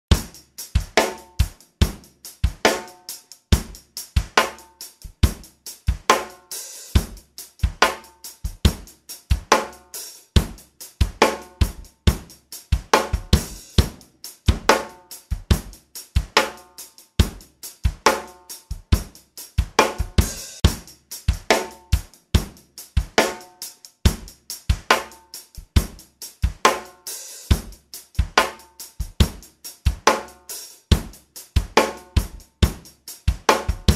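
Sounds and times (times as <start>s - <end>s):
drum kit beat: 0.1s - 33.9s.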